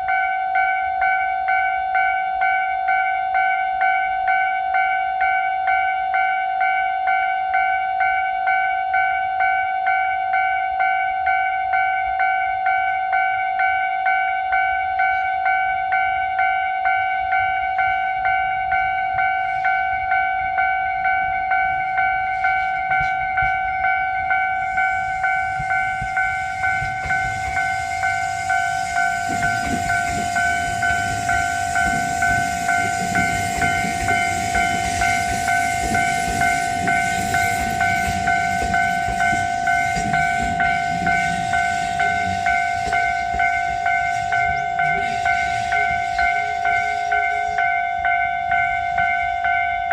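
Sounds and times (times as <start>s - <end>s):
level-crossing warning bell ringing: 0.0s - 49.9s
train passing: 6.2s - 49.9s.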